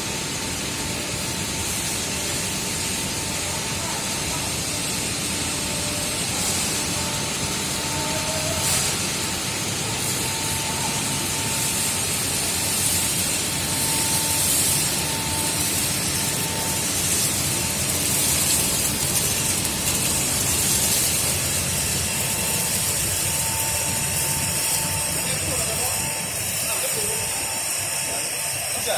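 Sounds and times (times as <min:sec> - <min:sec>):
machine fans hissing: 0:00.0 - 0:28.9.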